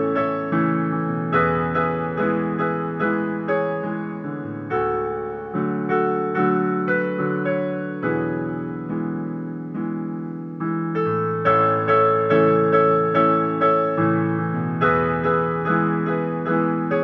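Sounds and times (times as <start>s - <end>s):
piano playing broken chords: 0.0s - 17.0s.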